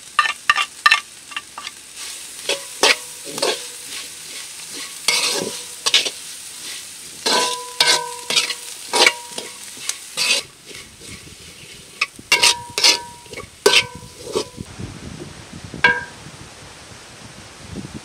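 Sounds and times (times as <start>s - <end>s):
vegetables sizzling: 0.0s - 14.7s
metal spatula scraping a wok: 0.1s - 14.7s.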